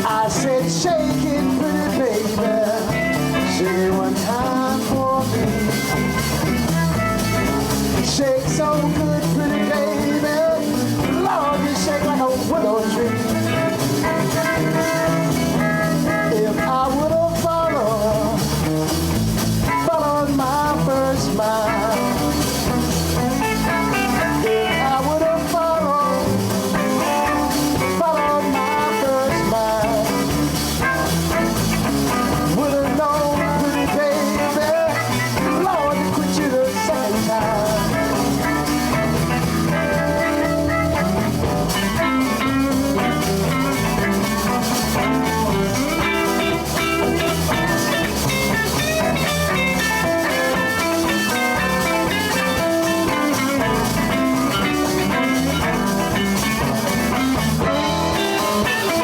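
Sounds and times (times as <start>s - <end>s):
electric blues band playing: 0.0s - 59.0s
lead guitar bending notes: 1.4s - 59.0s.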